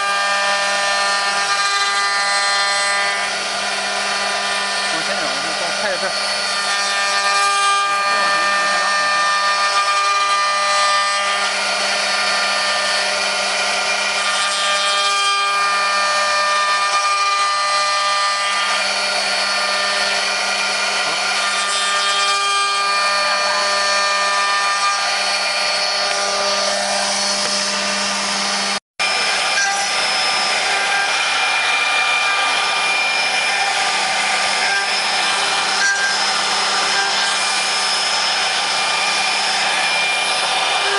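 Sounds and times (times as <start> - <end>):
router bits cutting wood: 0.0 - 40.9
router spindles whining: 0.0 - 40.9.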